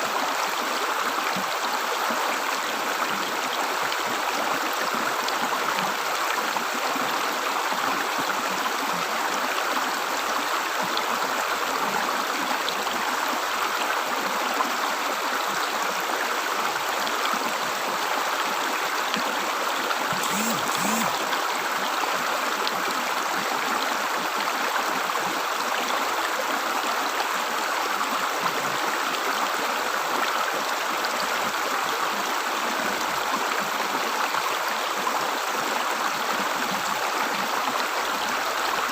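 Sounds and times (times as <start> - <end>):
river water gurgling: 0.0 - 38.9.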